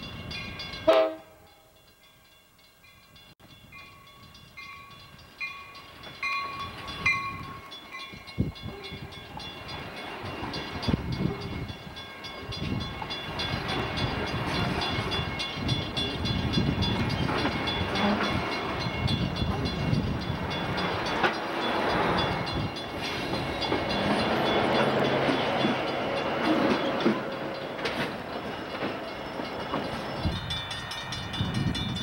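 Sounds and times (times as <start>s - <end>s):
bell ringing: 0.0s - 32.0s
train wheels rumbling on rails: 0.0s - 32.0s.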